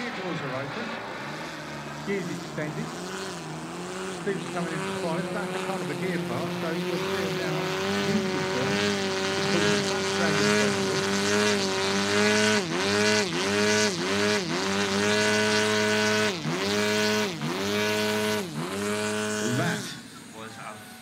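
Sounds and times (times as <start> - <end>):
model jet turbine whine: 0.0 - 21.0.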